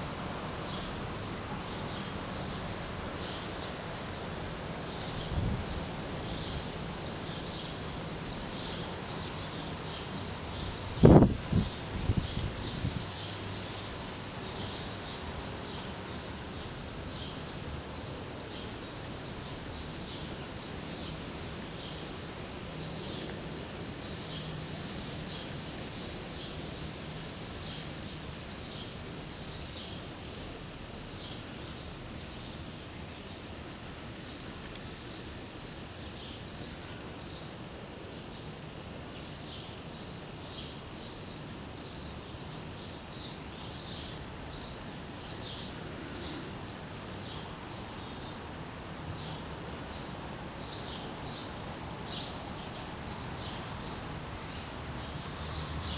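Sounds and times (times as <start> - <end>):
outdoor background noise: 0.0 - 55.9
small birds chirping: 0.6 - 37.6, 38.2 - 48.6, 49.2 - 55.9.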